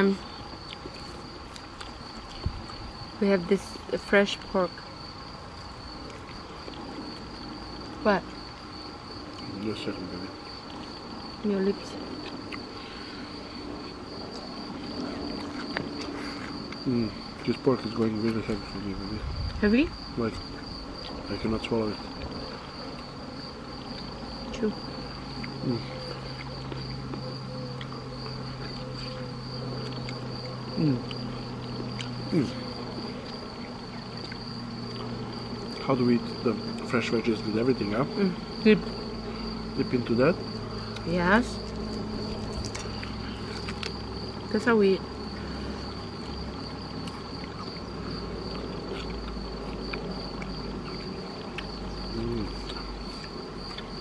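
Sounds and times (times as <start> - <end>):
flies buzzing: 0.0 - 54.0
high-pitched insect chorus: 0.0 - 54.0
people chewing: 0.0 - 54.0.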